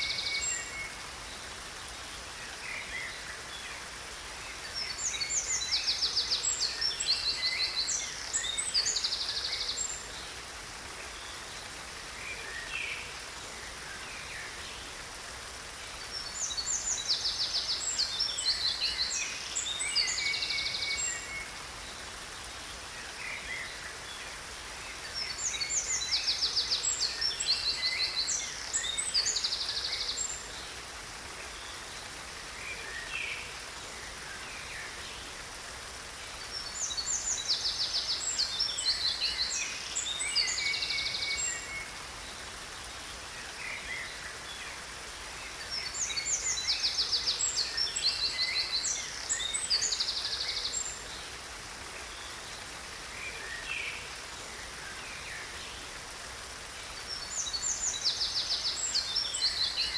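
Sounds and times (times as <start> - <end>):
falling water hiss: 0.0 - 59.9.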